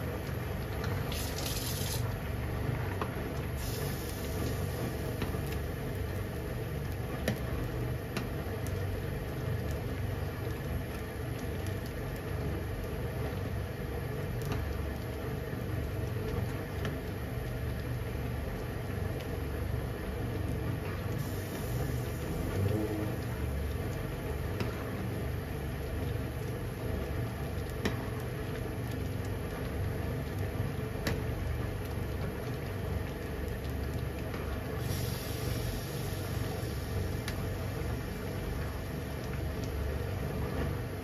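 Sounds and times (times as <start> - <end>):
broth boiling and bubbling: 0.0 - 41.0.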